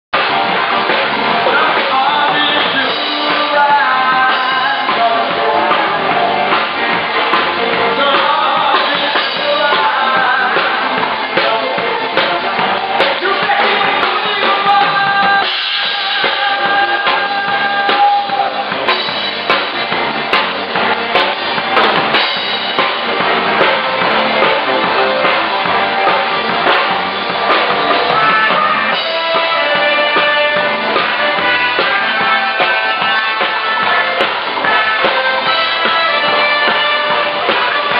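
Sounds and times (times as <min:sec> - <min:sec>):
bass drum and snare beat: 0:00.1 - 0:37.9
live band playing: 0:00.1 - 0:37.9.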